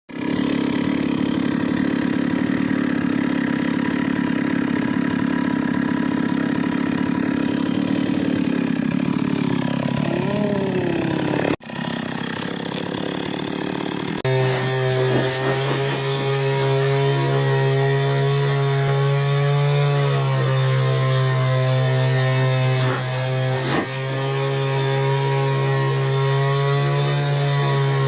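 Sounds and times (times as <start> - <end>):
chainsaw engine running: 0.1 - 28.0.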